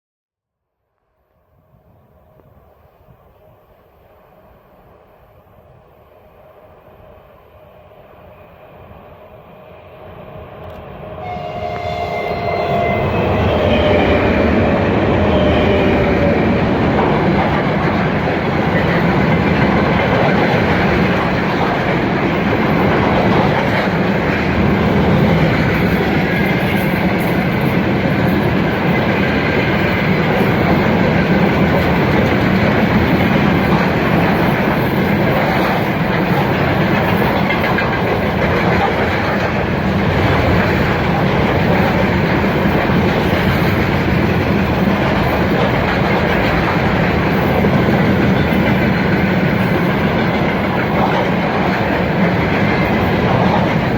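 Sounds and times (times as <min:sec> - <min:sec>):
electric locomotive whine: 0:01.0 - 0:53.9
train wagons rumbling and clattering: 0:10.6 - 0:53.9.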